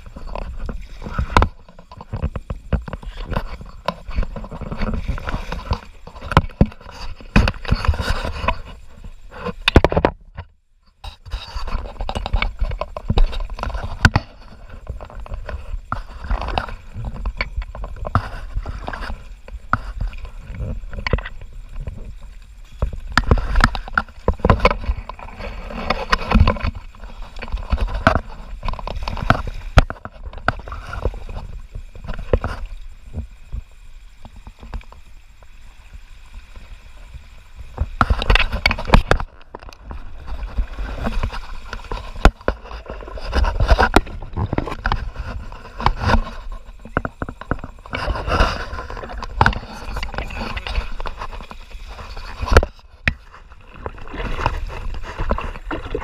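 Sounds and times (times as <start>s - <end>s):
river water splashing against kayak: 0.0s - 56.0s.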